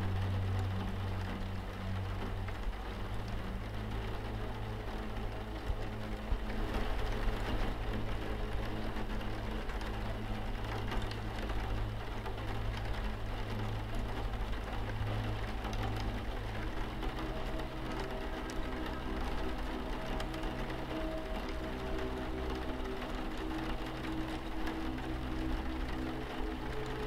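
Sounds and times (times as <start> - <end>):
ambient music held tones: 0.0 - 27.0
rain on a window: 0.0 - 27.0.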